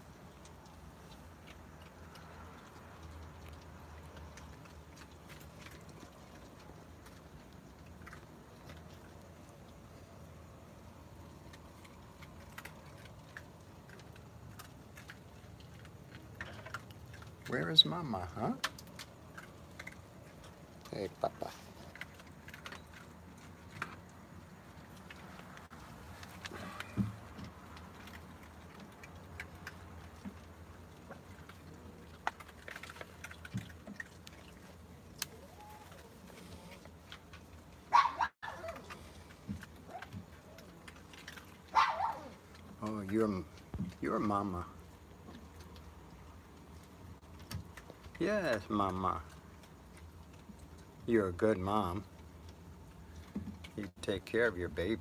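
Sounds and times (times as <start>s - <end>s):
low steady hum: 0.0s - 55.0s
raccoons eating clicks and crunches: 0.0s - 55.0s.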